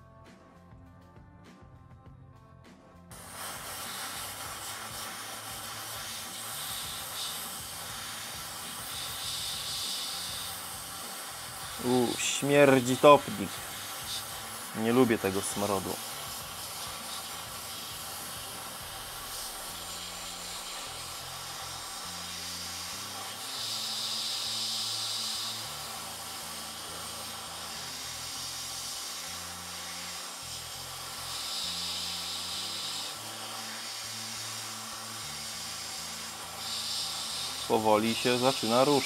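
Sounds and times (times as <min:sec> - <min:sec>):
hot-air station hissing: 0:03.1 - 0:39.0.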